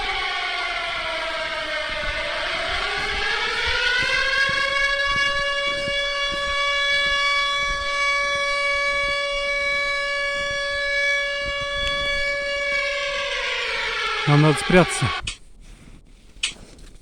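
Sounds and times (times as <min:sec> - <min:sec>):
air-raid siren wailing: 0:00.0 - 0:15.3.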